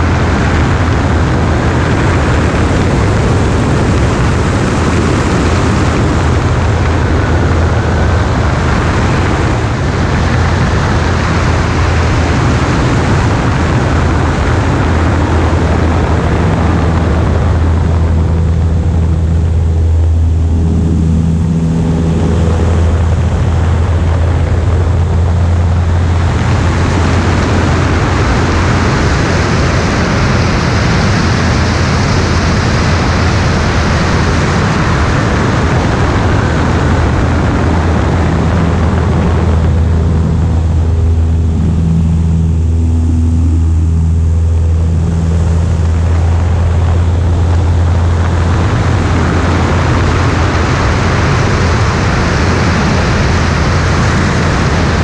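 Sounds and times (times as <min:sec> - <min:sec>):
light aircraft engine drone: 0:00.0 - 0:55.0
wind rushing over microphone: 0:00.0 - 0:55.0.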